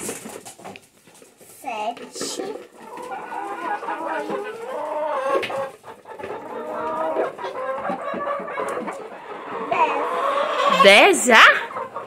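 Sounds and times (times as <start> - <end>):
hens clucking: 2.2 - 12.0.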